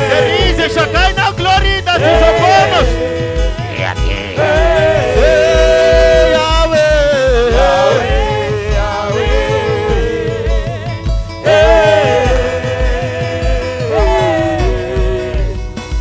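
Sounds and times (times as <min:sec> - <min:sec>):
gospel voices singing: 0:00.0 - 0:16.0
pulsing bass beat: 0:00.0 - 0:16.0.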